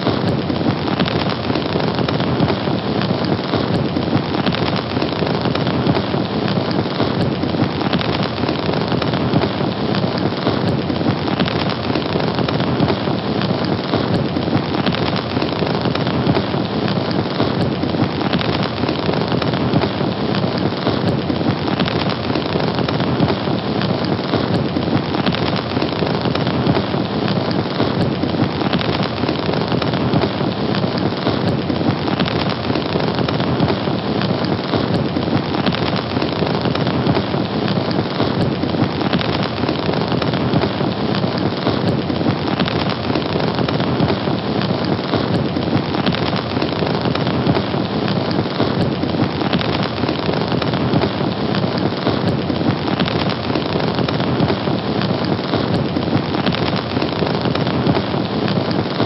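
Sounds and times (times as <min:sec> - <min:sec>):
hiss of flames: 0:00.0 - 0:59.0.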